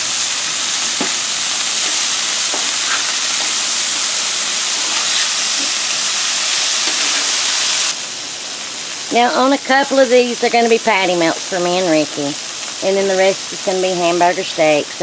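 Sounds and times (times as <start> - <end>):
meat sizzling on a griddle: 0.0 - 15.0.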